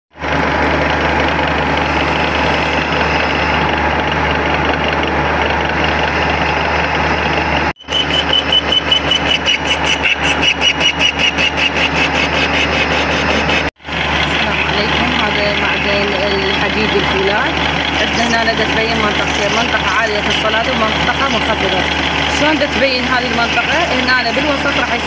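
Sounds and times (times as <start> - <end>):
drill bit boring steel: 0.2 - 25.0
lathe spindle hum: 0.2 - 25.0
pulsing high-pitched cutting squeal: 0.8 - 25.0.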